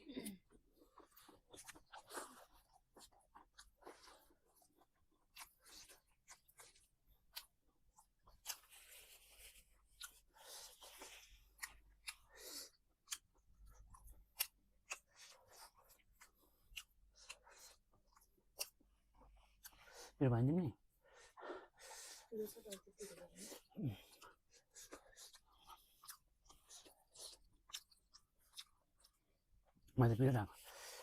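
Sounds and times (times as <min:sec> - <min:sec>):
chewing and crunching: 0:00.1 - 0:20.2, 0:21.2 - 0:30.0.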